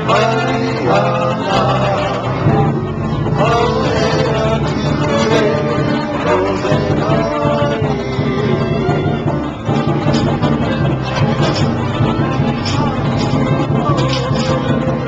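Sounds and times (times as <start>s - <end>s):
person singing: 0.0s - 15.0s
plucked guitar: 0.0s - 15.0s.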